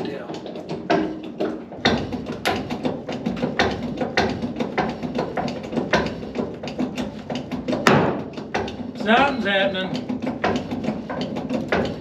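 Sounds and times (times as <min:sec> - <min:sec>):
hydraulic jack clanking and creaking: 0:00.0 - 0:12.0.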